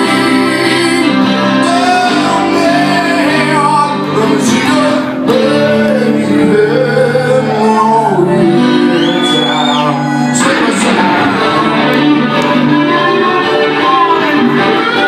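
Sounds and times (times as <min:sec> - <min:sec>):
man singing into a microphone: 0:00.0 - 0:15.0
strummed acoustic guitars: 0:00.0 - 0:15.0.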